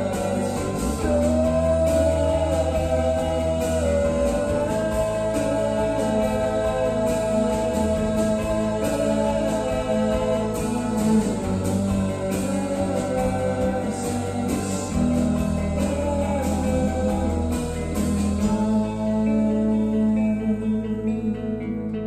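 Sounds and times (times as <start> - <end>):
guitar music over a beat: 0.0 - 22.0.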